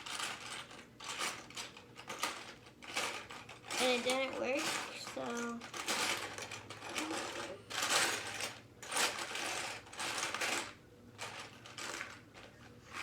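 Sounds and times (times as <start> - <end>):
plastic pieces rattling: 0.0 - 13.0.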